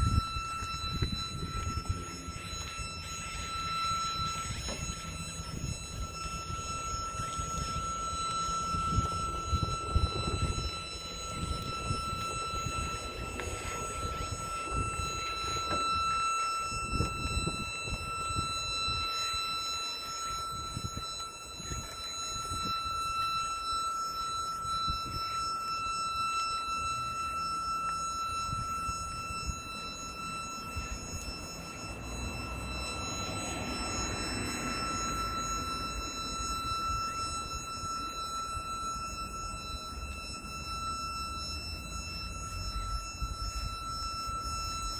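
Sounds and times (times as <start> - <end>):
vehicle engine whining: 0.0 - 44.9.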